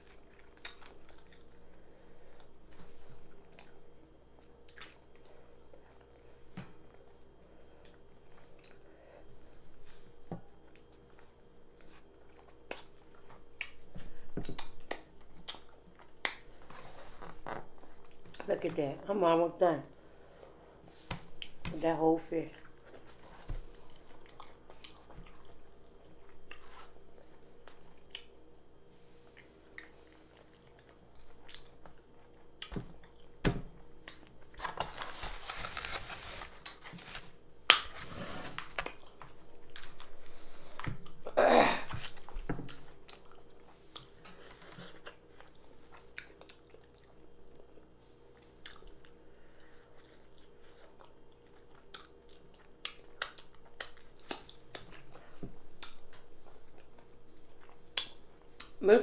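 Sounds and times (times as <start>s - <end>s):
wet chewing and mouth sounds: 0.0s - 2.6s, 3.2s - 9.8s, 10.4s - 18.5s, 22.5s - 34.8s, 38.6s - 41.3s, 41.9s - 58.8s.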